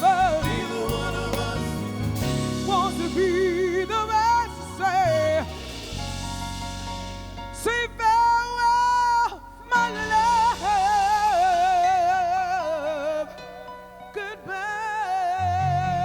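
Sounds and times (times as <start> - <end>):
live band accompaniment: 0.0 - 15.0.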